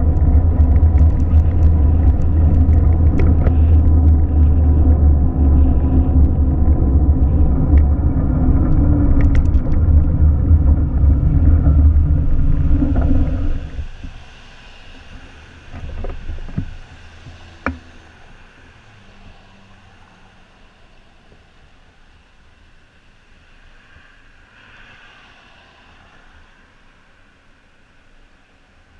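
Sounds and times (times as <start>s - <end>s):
low vehicle rumble: 0.0s - 27.1s.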